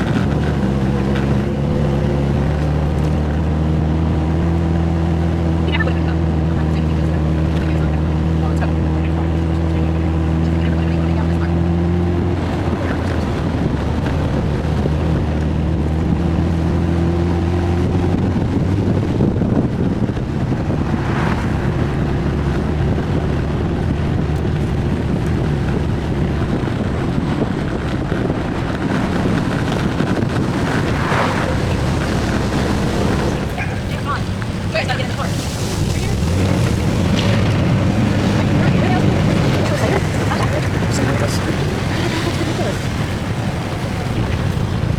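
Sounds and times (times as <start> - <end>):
car engine running: 0.0 - 44.9
road noise: 0.0 - 44.9
wind on microphone: 0.0 - 44.9.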